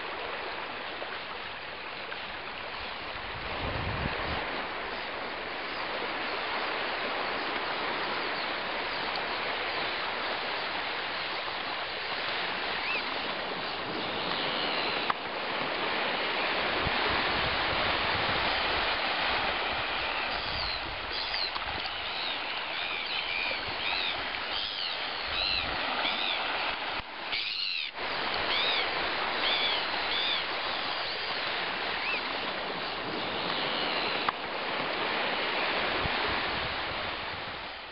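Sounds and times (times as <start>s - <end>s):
waves on a shingle shore: 0.0s - 37.9s.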